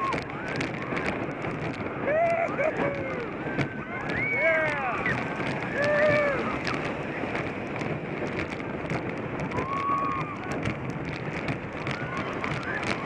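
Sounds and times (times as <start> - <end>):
roller coaster train rattling on track: 0.0 - 13.0
wind rushing over microphone: 0.0 - 13.0.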